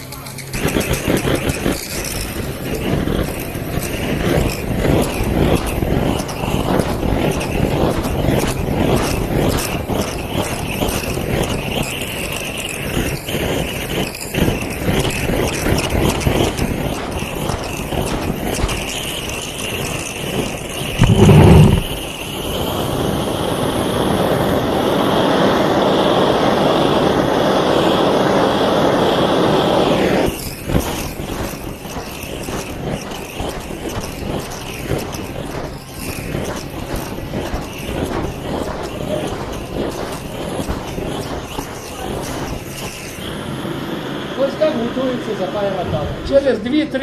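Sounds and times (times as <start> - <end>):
blowtorch hissing: 0.0 - 47.0.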